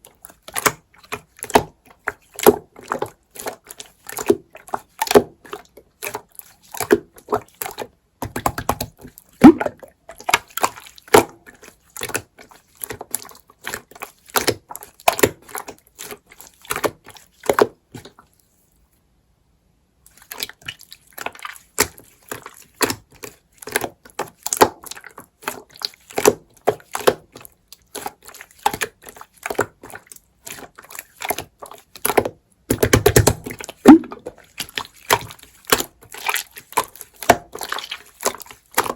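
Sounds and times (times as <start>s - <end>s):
slime clicking and squishing: 0.1s - 18.2s, 20.1s - 38.9s.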